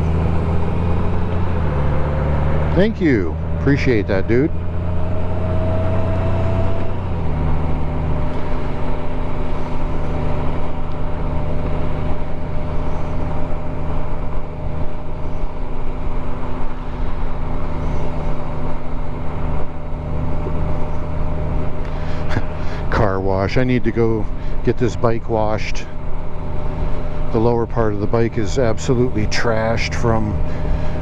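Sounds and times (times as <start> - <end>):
motorcycle engine revving: 0.0 - 31.0
wind and road noise: 0.0 - 31.0.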